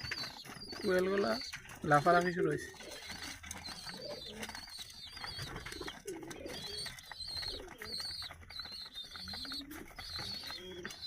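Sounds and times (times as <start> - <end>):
birds chirping: 0.0 - 11.0
pigeons cooing: 0.0 - 11.0.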